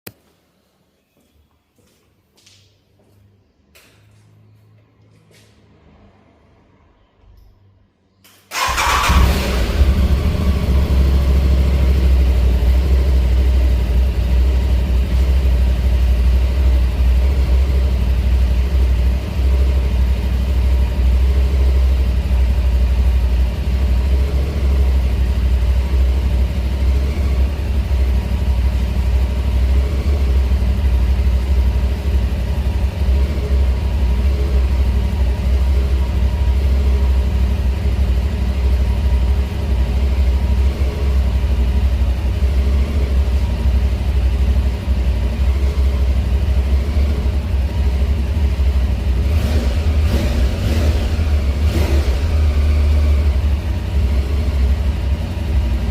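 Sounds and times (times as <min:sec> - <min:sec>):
motorcycle engine starting and idling: 0:08.2 - 0:55.9.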